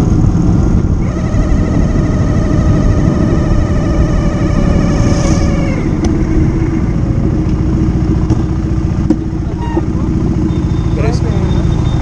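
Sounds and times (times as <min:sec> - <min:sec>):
motorcycle engine running: 0:00.0 - 0:12.0
higher-pitched drone: 0:01.0 - 0:12.0.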